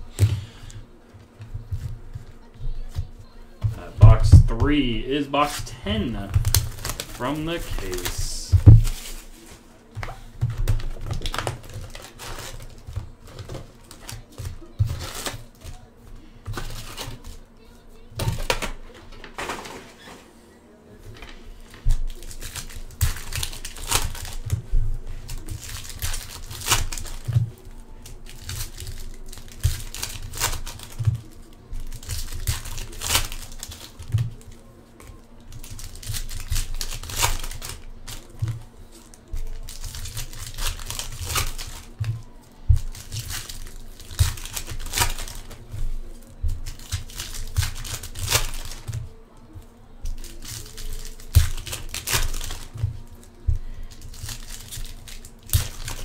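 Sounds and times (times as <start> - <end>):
foil wrappers tearing and crinkling: 3.9 - 15.9, 16.5 - 20.1, 21.2 - 56.0.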